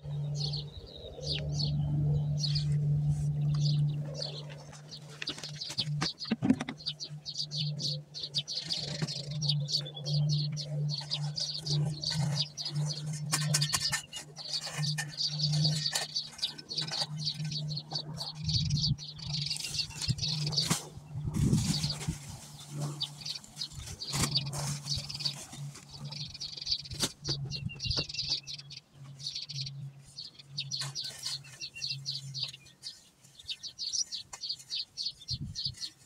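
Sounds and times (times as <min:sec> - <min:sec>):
birds chirping: 0:00.0 - 0:36.0
steady low hum: 0:00.0 - 0:36.0.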